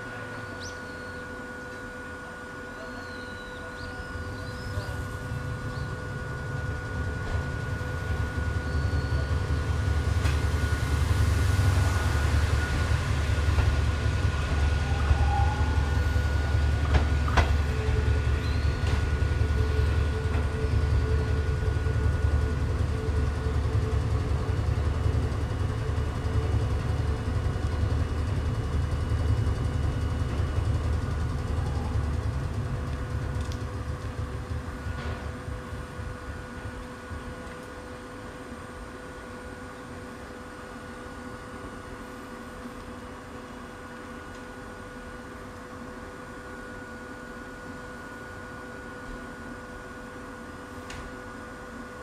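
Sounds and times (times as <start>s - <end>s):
constant whine: 0.0s - 52.0s
train motors and wheels rumbling: 0.0s - 52.0s.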